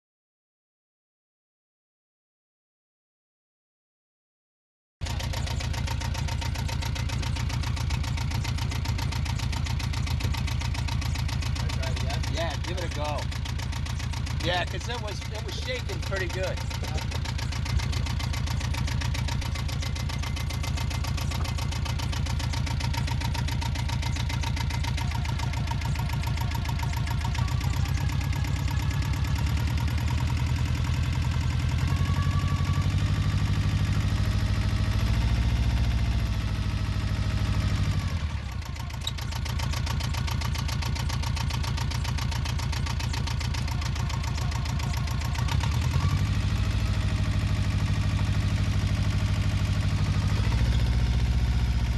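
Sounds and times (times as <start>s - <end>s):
marine diesel engine running: 5.0s - 51.9s.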